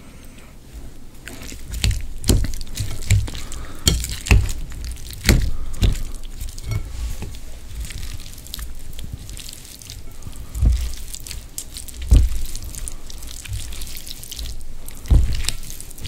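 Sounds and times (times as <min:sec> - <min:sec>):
wet noodles stirred: 0:00.6 - 0:16.0.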